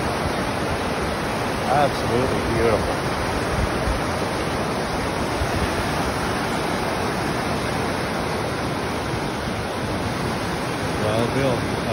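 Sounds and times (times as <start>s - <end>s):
water rushing over rocks: 0.0s - 11.9s.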